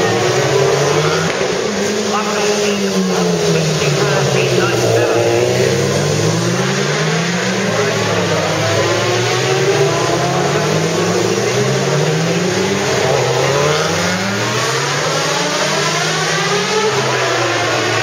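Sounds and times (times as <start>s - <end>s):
racing motorcycles accelerating: 0.0s - 18.0s.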